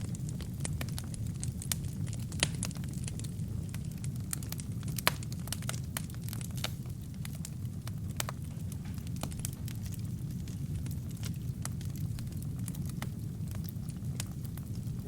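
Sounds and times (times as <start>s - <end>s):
logs crackling and popping: 0.0s - 15.0s
low roar of flames: 0.0s - 15.0s.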